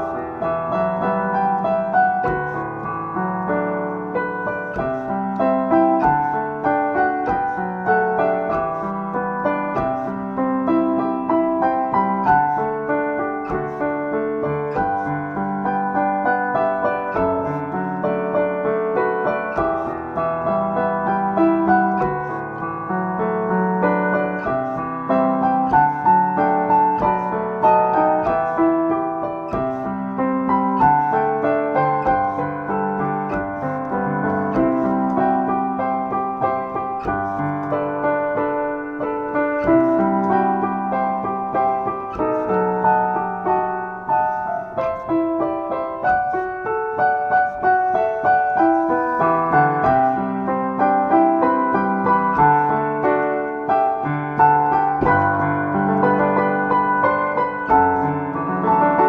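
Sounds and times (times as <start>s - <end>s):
solo piano playing: 0.0s - 59.0s.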